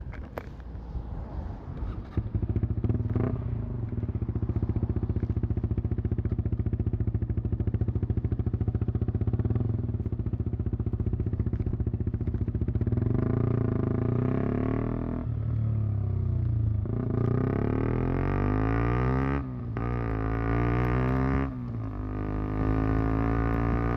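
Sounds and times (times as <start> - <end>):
motorcycle engine revving: 1.9 - 23.9.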